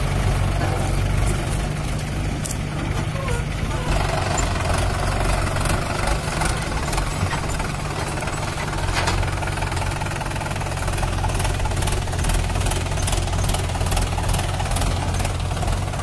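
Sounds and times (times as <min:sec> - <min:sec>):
tractor diesel engine clattering: 0:00.0 - 0:16.0.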